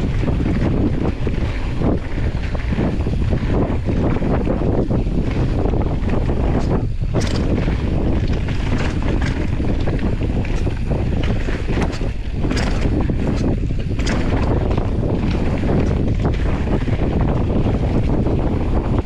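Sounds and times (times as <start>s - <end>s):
bike knocks and rattles: 0.0s - 19.0s
tyres rumbling over dirt: 0.0s - 19.0s
wind rushing over microphone: 0.0s - 19.0s.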